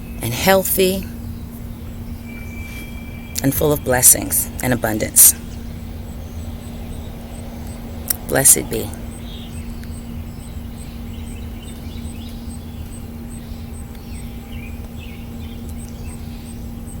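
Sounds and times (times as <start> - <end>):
low rumble and hum: 0.0 - 17.0
songbirds chirping: 0.0 - 17.0.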